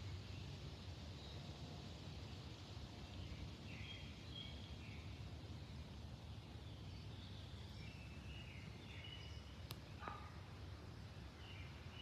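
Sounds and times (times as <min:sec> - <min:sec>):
faint birdsong: 0:00.0 - 0:12.0
low background noise: 0:00.0 - 0:12.0.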